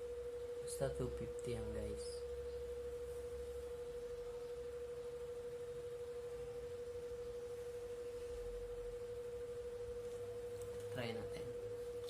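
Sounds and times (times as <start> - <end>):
steady pure tone: 0.0 - 12.0.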